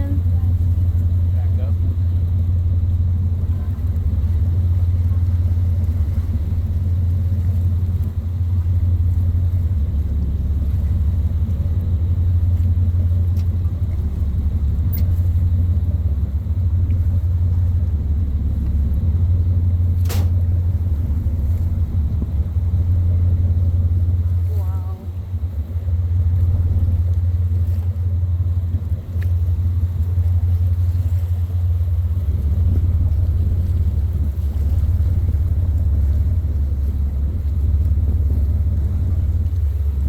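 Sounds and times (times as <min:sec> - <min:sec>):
engine low drone: 0:00.0 - 0:40.0.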